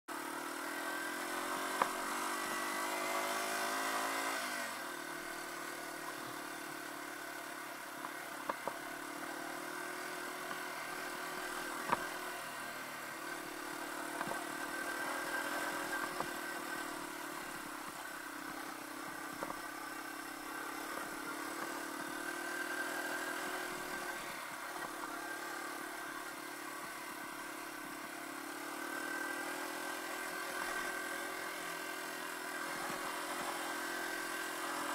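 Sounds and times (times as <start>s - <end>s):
motorcycle engine: 0.1s - 34.9s.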